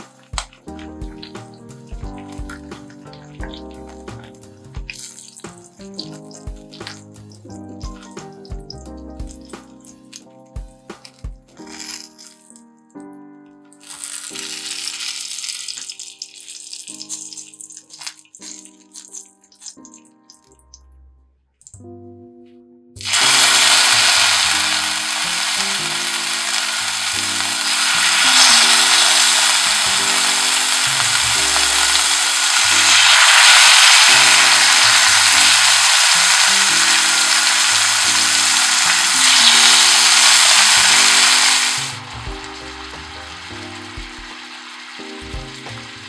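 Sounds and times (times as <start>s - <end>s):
chicken sizzling in hot oil: 0.0s - 10.3s, 11.0s - 12.6s, 13.8s - 20.4s, 23.0s - 46.0s.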